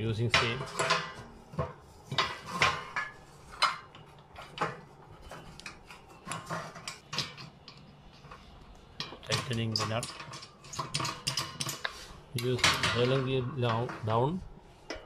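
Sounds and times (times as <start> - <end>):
metal parts clinking on bed frame: 0.0 - 15.0.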